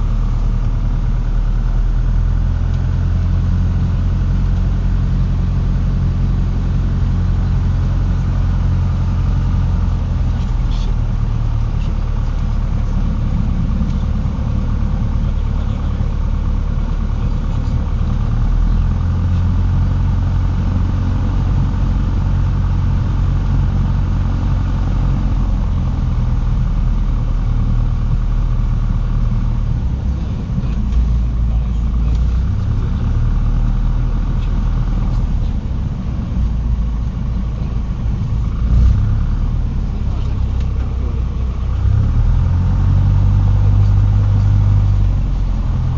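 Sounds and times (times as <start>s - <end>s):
airplane engine and propeller drone: 0.0s - 45.9s.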